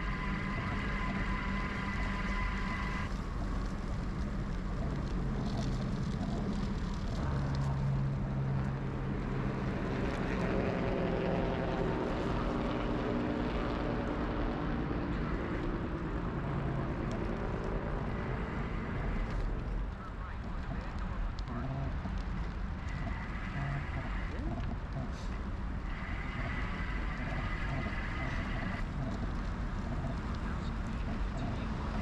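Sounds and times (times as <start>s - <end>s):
motor drone: 0.0s - 3.8s, 7.2s - 32.0s
bicycle riding rumble: 0.0s - 32.0s.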